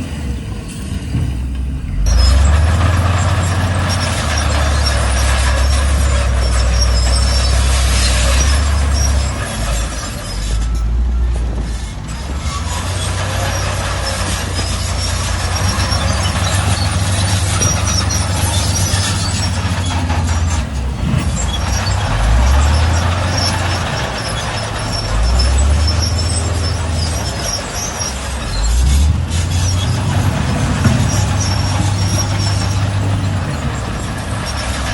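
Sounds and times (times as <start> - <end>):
bulldozer diesel engine under load: 0.0 - 34.9
high squeaks: 1.9 - 34.9.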